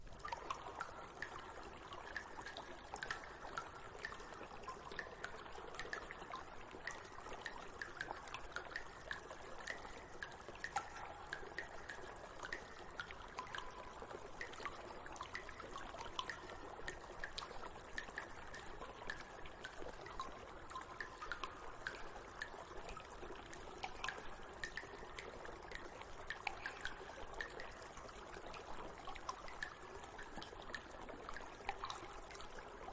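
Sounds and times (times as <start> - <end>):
water drips: 0.0 - 32.9
water trickling: 0.0 - 32.9.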